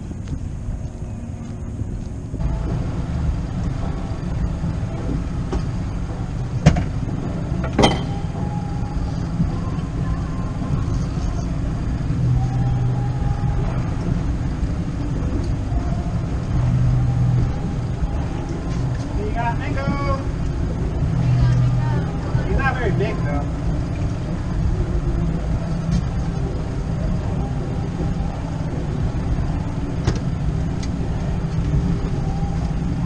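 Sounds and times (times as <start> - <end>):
low hum: 0.0 - 33.0
wind rumbling on microphone: 0.0 - 33.0.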